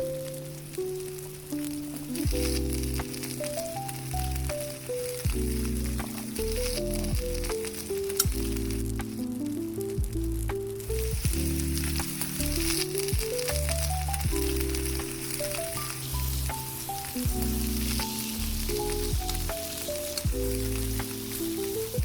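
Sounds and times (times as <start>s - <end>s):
background music: 0.0s - 22.0s
food sizzling and frying: 0.0s - 22.0s.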